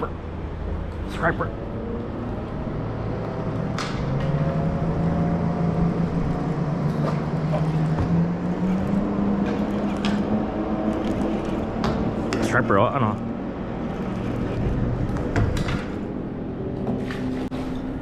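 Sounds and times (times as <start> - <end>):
motor hum rising in pitch: 0.1 - 18.0.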